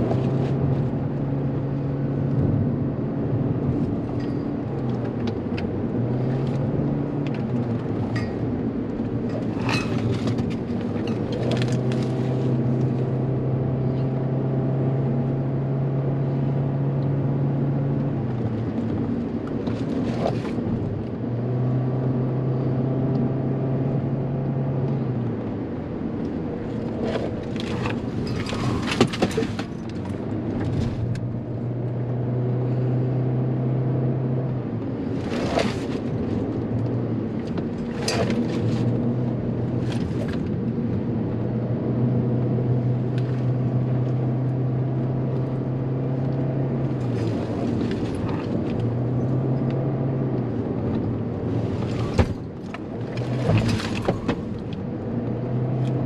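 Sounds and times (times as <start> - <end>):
car engine drone: 0.0 - 56.0
tyre and road noise: 0.0 - 56.0.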